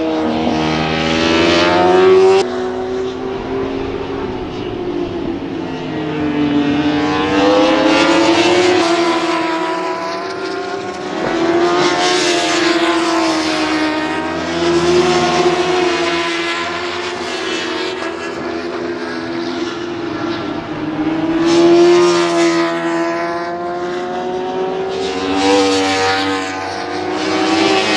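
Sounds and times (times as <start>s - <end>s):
racing motorcycles at high revs: 0.0s - 27.9s.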